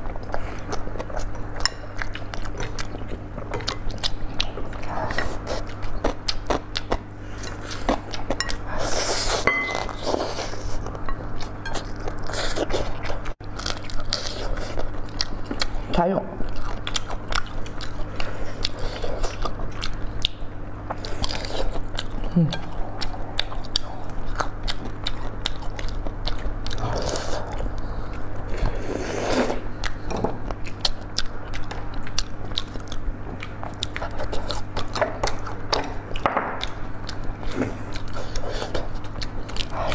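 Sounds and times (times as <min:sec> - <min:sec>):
biting and chewing food: 0:00.0 - 0:39.9.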